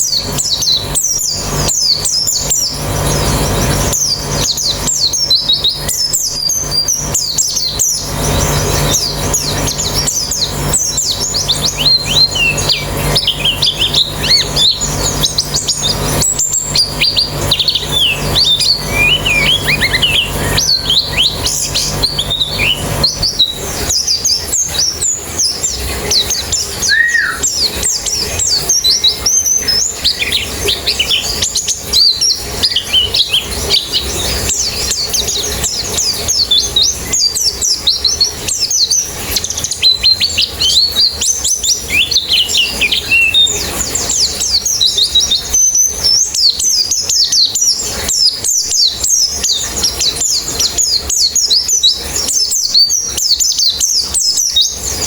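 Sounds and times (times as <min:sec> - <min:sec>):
low steady hum: 0:00.0 - 0:46.0
birds chirping and twittering: 0:00.0 - 0:55.0.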